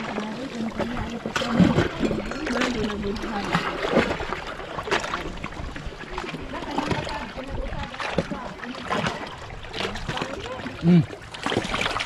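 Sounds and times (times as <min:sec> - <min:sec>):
seawater lapping over rocks: 0:00.0 - 0:12.0.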